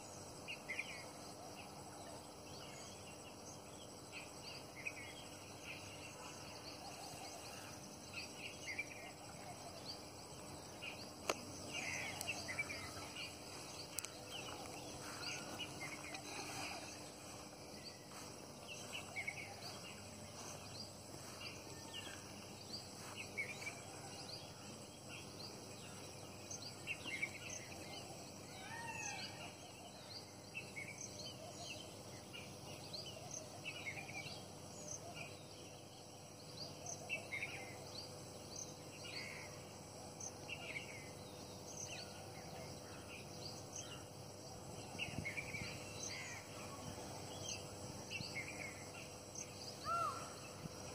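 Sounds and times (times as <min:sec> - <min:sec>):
faint steady hiss: 0:00.0 - 0:50.9.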